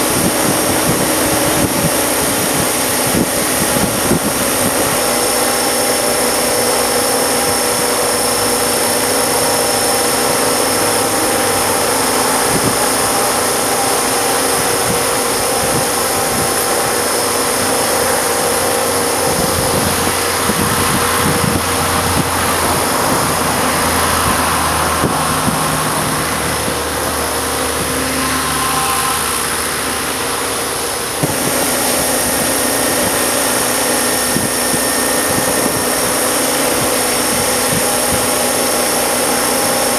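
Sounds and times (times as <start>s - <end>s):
wind buffeting microphone: 0.0s - 28.2s, 29.2s - 39.9s
helicopter motor and gear whine: 0.0s - 39.9s
rotor noise: 0.0s - 39.9s.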